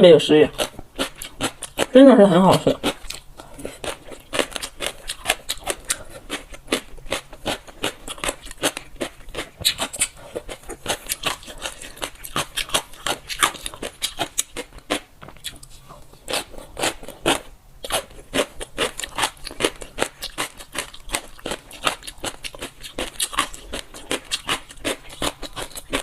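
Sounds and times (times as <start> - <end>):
crunchy chewing: 0.4 - 26.0.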